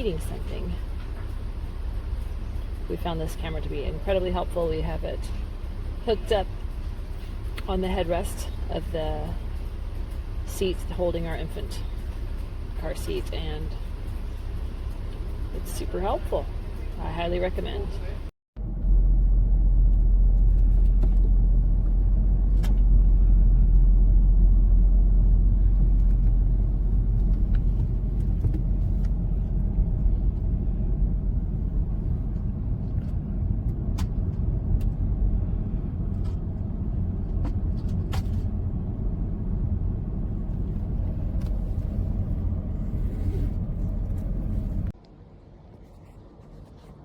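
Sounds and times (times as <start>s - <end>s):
car cabin road rumble: 0.0s - 47.0s.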